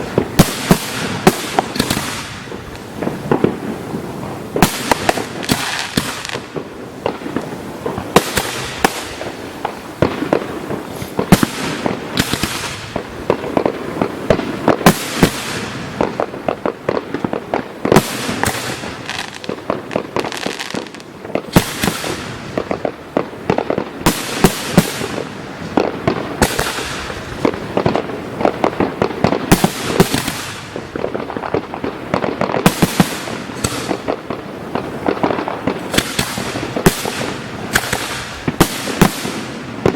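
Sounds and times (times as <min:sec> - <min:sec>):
fireworks bangs: 0:00.0 - 0:39.9
fireworks hissing and crackling: 0:00.0 - 0:39.9.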